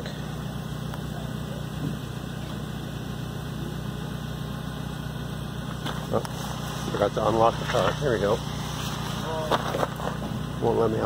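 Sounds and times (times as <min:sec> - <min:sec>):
car heating system humming: 0:00.0 - 0:11.0.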